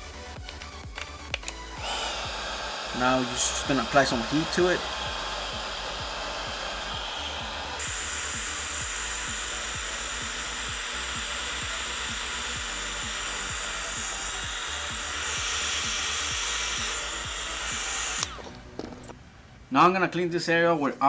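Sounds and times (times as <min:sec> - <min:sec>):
heat gun blowing: 0:01.3 - 0:19.2.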